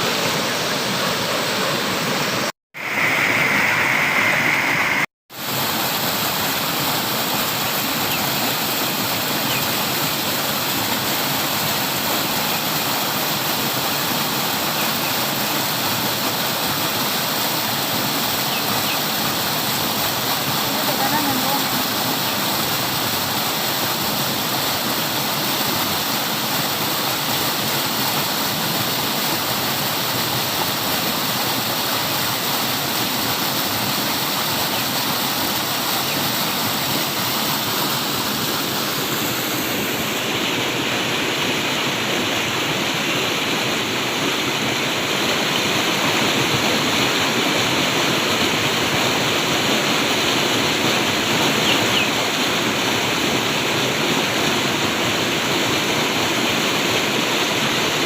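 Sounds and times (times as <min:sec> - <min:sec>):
rush of flowing water: 0:00.0 - 0:58.0.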